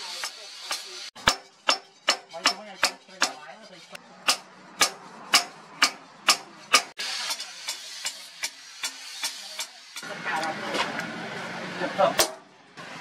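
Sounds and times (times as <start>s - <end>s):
hammer striking hot steel on anvil: 0.0s - 10.5s, 12.1s - 12.5s.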